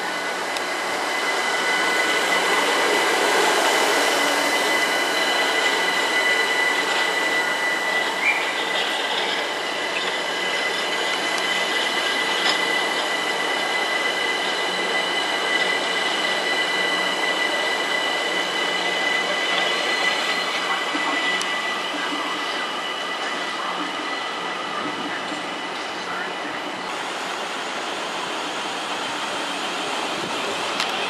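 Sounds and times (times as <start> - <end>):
high-pitched train whine: 0.0 - 31.0
train rumbling: 0.0 - 31.0.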